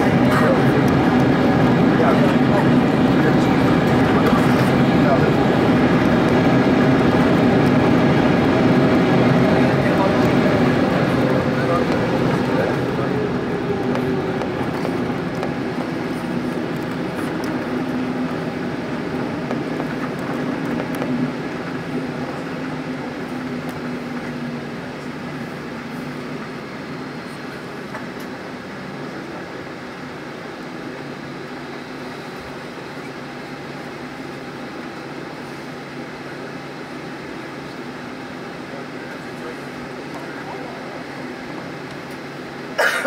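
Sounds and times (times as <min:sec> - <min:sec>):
aircraft cabin taxiing noise: 0:00.0 - 0:43.0.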